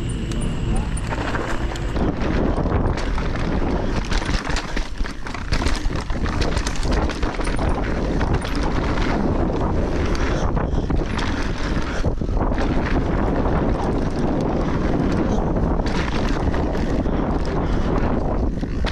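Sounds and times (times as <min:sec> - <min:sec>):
bike clattering and rattling: 0:00.0 - 0:18.9
wind buffeting microphone: 0:00.0 - 0:18.9.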